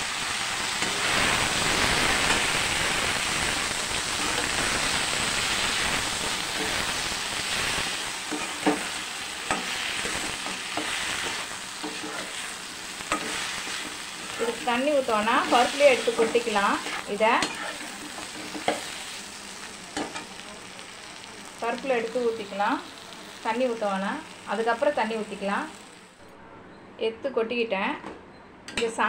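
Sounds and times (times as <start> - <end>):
vegetables sizzling in hot oil: 0.0 - 26.2.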